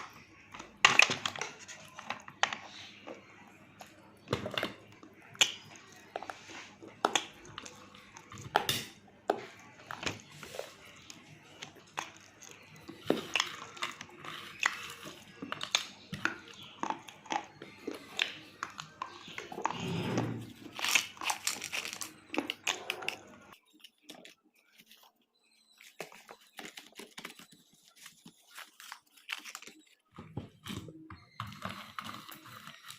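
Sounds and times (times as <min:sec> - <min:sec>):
crunchy chewing: 0:00.0 - 0:32.9.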